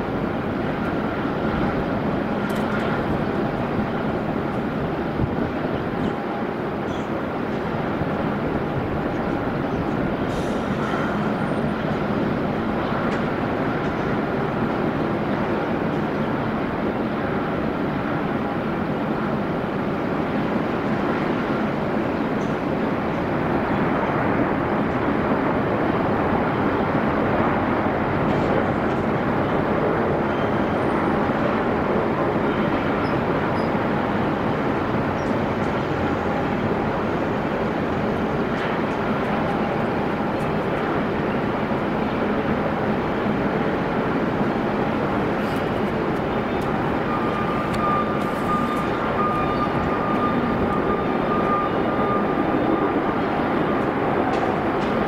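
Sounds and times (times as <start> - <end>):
jet engine noise: 0.0 - 55.0.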